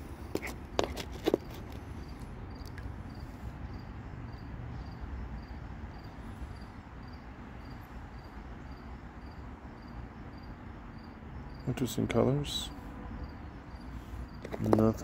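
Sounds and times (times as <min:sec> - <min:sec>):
insect chirping: 0:00.3 - 0:15.0.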